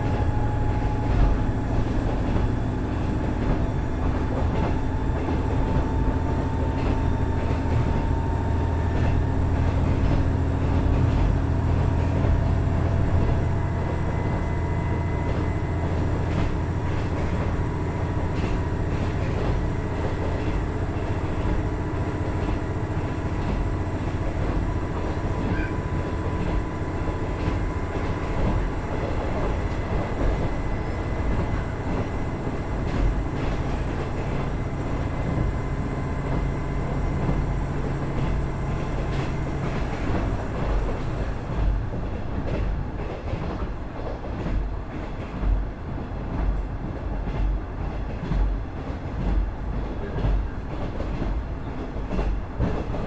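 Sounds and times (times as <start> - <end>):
diesel railcar engine droning: 0.0 - 53.0
wheel and rail rumble: 0.0 - 53.0.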